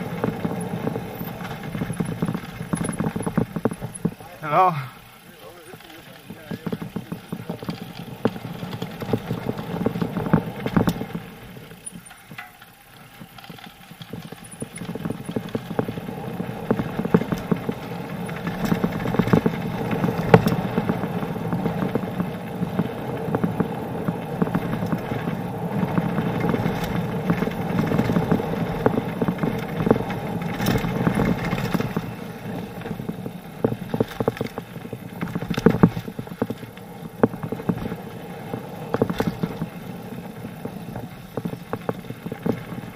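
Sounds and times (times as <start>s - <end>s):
bike rattling and knocking: 0.0s - 42.9s
bike tyres rolling on gravel: 0.0s - 42.9s.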